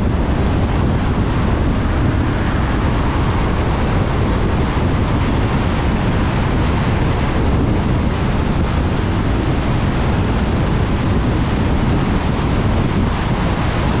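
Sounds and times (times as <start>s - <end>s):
car driving on wet road: 0.0s - 14.0s.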